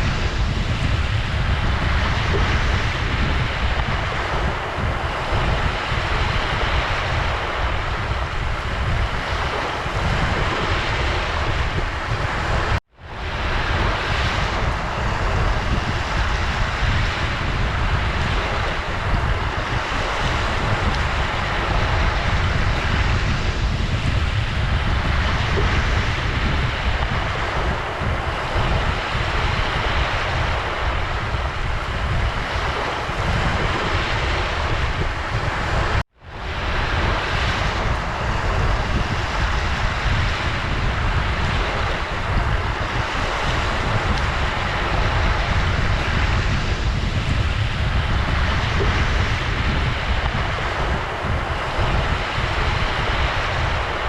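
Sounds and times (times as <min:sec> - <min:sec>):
ocean surf washing on shore: 0:00.0 - 0:54.0
wind rumble on microphone: 0:00.0 - 0:54.0.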